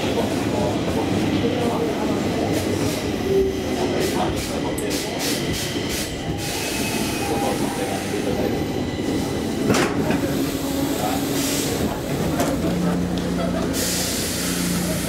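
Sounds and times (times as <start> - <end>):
subway wheels rumbling on track: 0.0 - 15.0.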